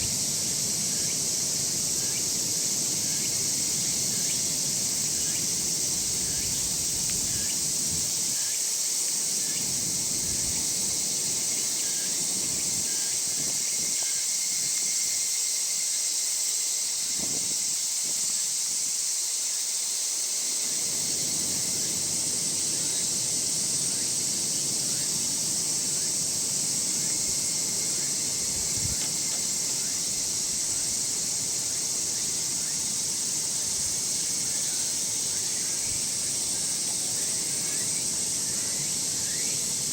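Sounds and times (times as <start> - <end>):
high chorus of insects: 0.0 - 39.9
lower pulsing insect call: 0.0 - 39.9.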